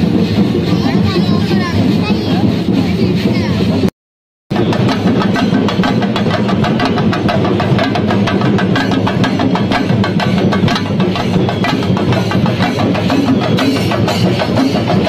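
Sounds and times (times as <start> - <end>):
drums beaten fast with sticks: 0.0 - 3.9, 4.5 - 15.0.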